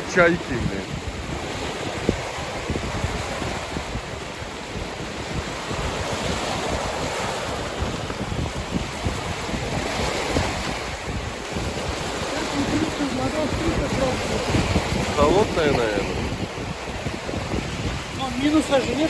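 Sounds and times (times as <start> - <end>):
waves washing on shore: 0.0 - 19.0
wind buffeting microphone: 0.0 - 19.0.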